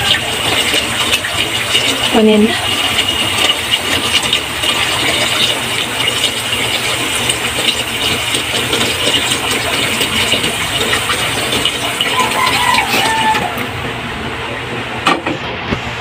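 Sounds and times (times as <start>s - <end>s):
tap water running into pot: 0.0s - 13.8s.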